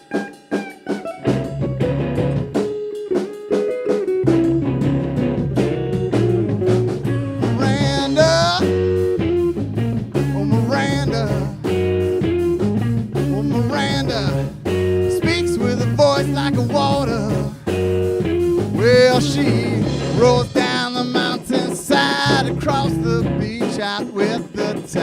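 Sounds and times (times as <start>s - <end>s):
drums: 0.0s - 25.0s
guitar lines: 0.0s - 25.0s
bass: 1.2s - 2.6s, 4.2s - 23.8s.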